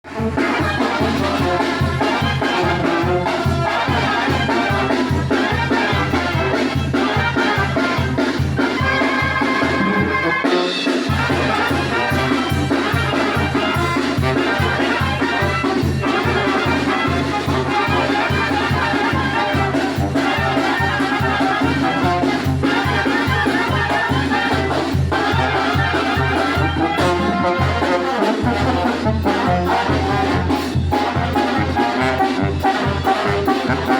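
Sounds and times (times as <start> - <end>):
brass band playing: 0.0 - 33.9.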